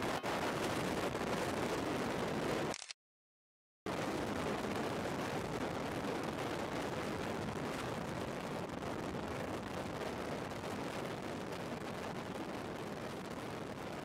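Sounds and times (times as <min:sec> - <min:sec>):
steady rushing noise: 0:00.0 - 0:02.7, 0:03.9 - 0:14.0.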